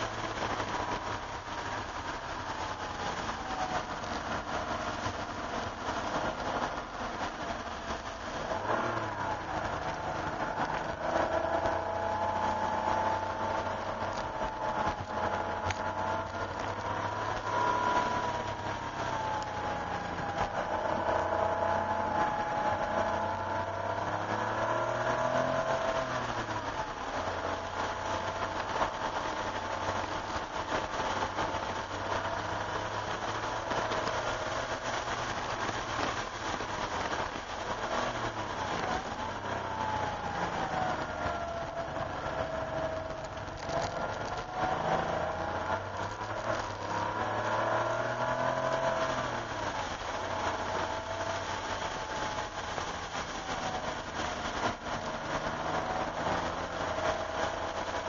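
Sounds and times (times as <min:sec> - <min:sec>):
car engine in cabin: 0:00.0 - 0:58.0
tyre hiss on wet road: 0:00.0 - 0:58.0.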